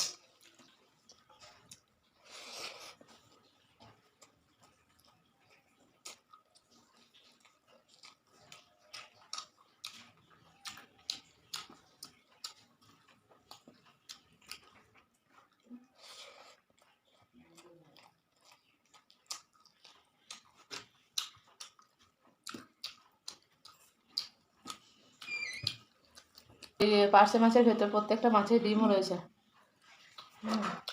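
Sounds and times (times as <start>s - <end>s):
person chewing food: 0.0s - 26.8s, 29.3s - 30.9s.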